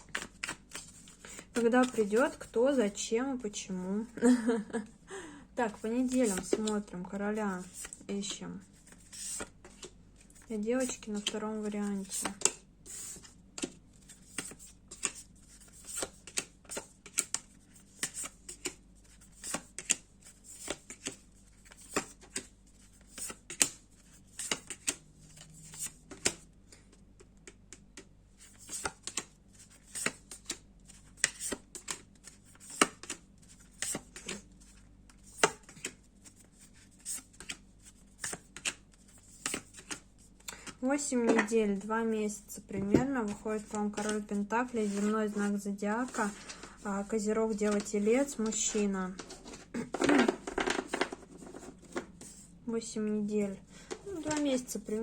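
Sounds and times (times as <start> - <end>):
cards being shuffled: 0.0 - 3.0, 5.7 - 8.1, 8.8 - 26.4, 28.4 - 40.8, 42.9 - 52.4, 53.8 - 55.0.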